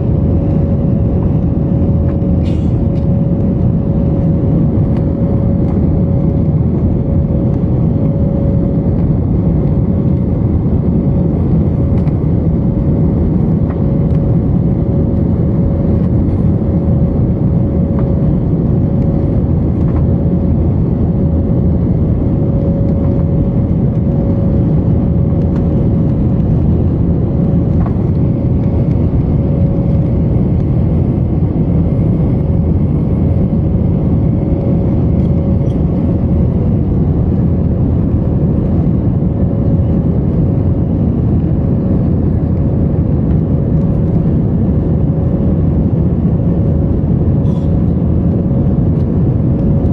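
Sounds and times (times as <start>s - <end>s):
aircraft cabin engine rumble: 0.0s - 49.9s.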